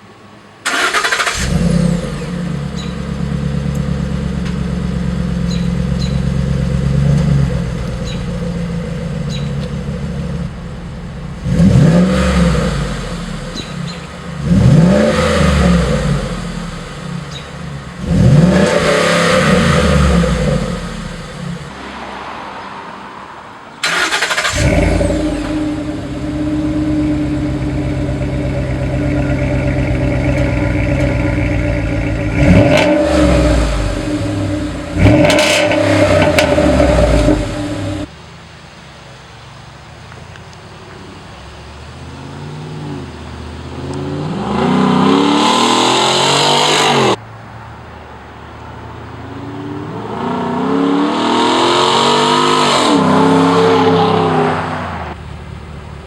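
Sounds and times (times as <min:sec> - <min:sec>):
truck accelerating through gears: 0:00.6 - 0:38.1, 0:42.0 - 0:47.2, 0:49.4 - 0:55.3
truck engine revving: 0:00.7 - 0:22.6, 0:23.8 - 0:38.1, 0:42.5 - 0:47.2, 0:49.8 - 0:55.2.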